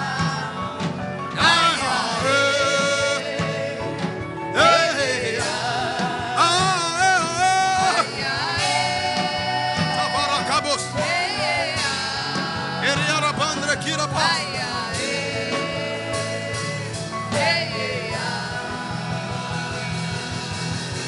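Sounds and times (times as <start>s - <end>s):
sustained instrumental chords: 0.0s - 21.0s.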